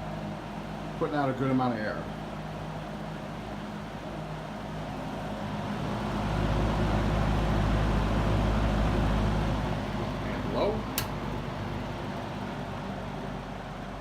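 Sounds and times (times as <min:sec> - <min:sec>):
box fan air rushing: 0:02.0 - 0:14.0
low motor hum: 0:02.1 - 0:14.0.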